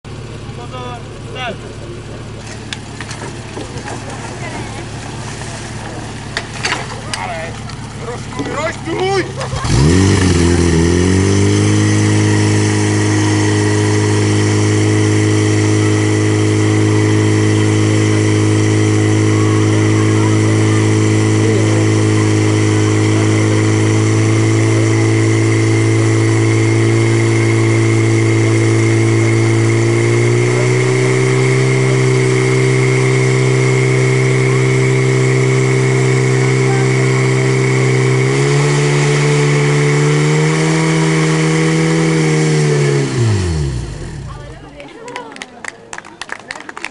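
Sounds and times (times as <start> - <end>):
pump engine running at high revs: 0.0 - 45.2.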